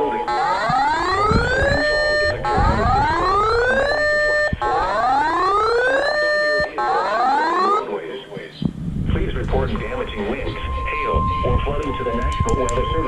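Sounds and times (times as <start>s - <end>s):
rising electronic alarm tone: 0.0s - 7.9s, 9.9s - 13.0s.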